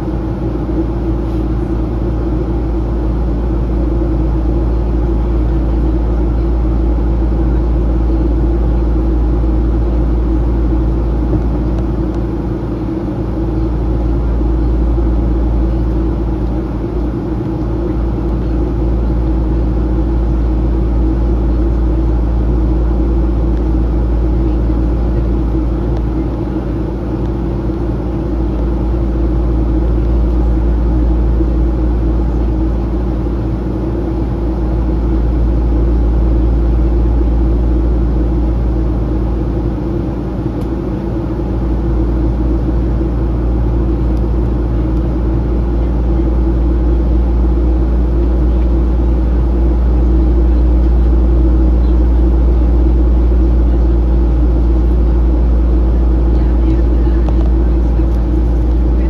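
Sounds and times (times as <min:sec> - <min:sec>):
airplane cabin engine drone: 0:00.0 - 0:59.0
steady low hums: 0:00.0 - 0:59.0.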